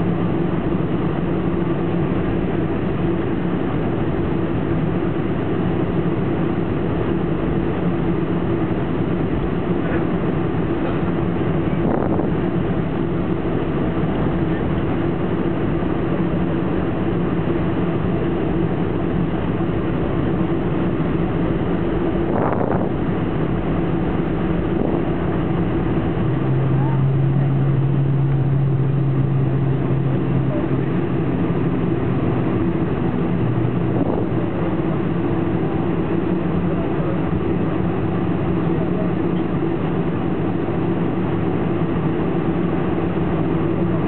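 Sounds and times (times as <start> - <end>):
air rushing in cabin: 0.0 - 44.0
jet engines humming: 0.0 - 44.0.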